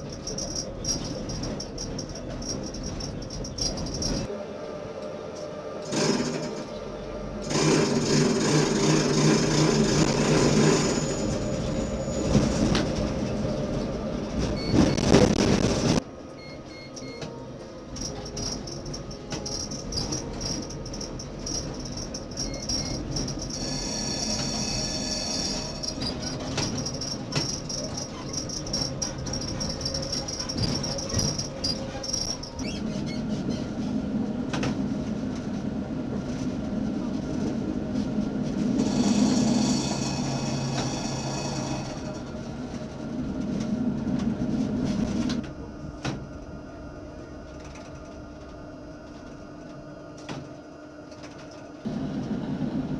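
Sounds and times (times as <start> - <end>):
tram running on rails: 0.0 - 52.9.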